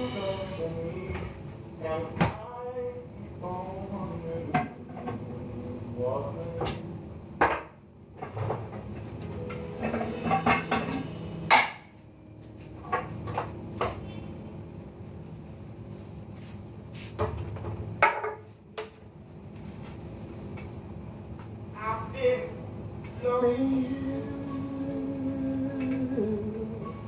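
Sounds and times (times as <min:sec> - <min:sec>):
faint steady hum: 0:00.0 - 0:17.1, 0:17.9 - 0:27.0.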